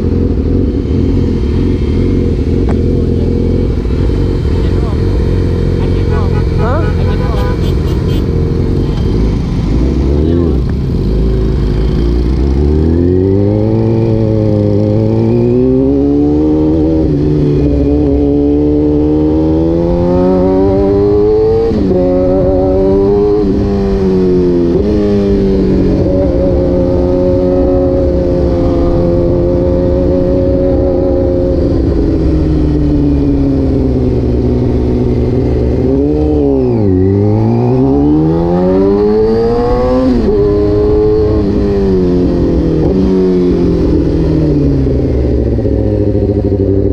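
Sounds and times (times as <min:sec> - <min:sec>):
motorcycle engine shifting gears: 0:00.0 - 0:46.9.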